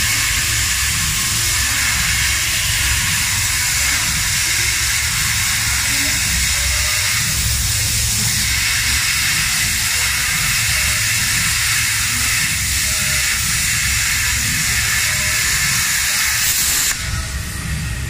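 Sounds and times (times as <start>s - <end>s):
plasma cutter hissing: 0.0s - 18.0s.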